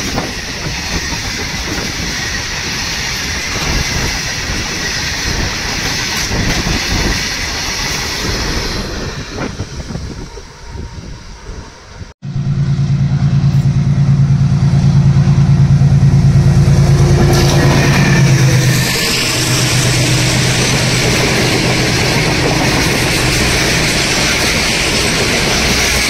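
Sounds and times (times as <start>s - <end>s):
freight train wagons rolling: 0.0s - 12.0s, 12.7s - 26.0s
locomotive low hum: 0.0s - 26.0s.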